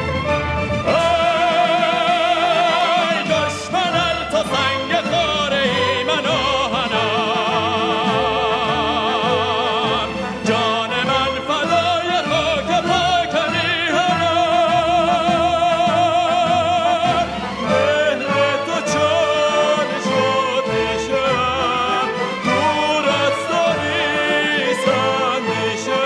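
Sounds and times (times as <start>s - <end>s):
instrumental backing music: 0.0s - 26.0s
man singing operatically: 0.8s - 26.0s.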